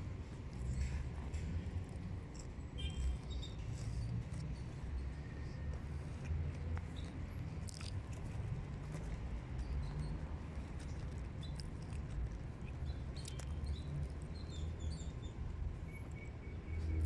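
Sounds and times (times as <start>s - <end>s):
small birds chirping: 2.3s - 17.0s.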